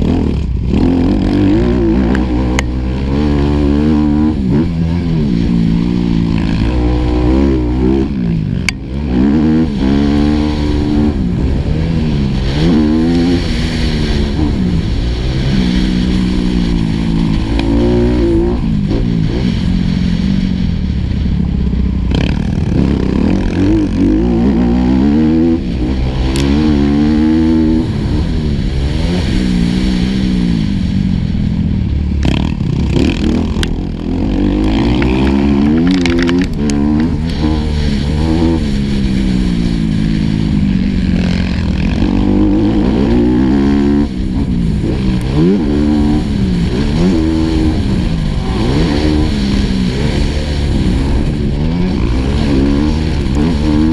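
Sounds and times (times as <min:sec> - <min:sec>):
motorbike engine revving: 0:00.0 - 0:53.9.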